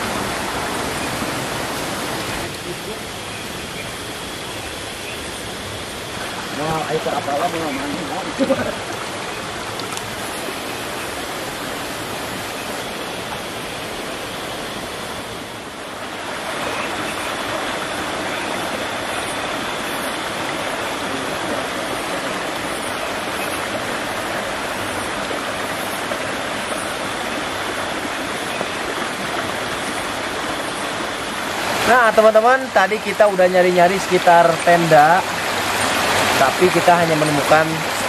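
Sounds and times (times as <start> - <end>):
waterfall rushing water: 0.0 - 38.0.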